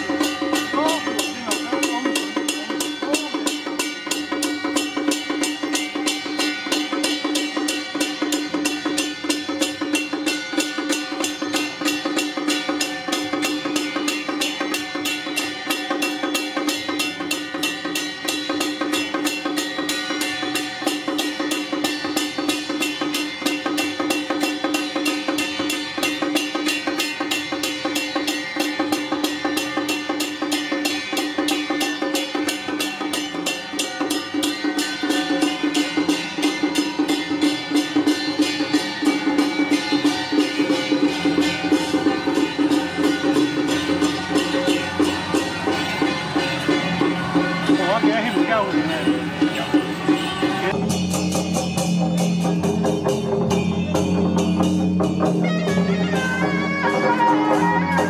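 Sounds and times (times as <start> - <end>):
fast drum and cymbal beating: 0.0 - 58.0.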